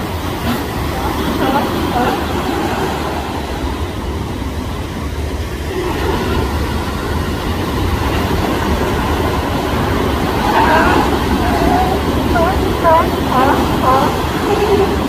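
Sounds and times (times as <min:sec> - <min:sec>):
ocean surf rumbling: 0:00.0 - 0:15.0
wind: 0:00.0 - 0:15.0.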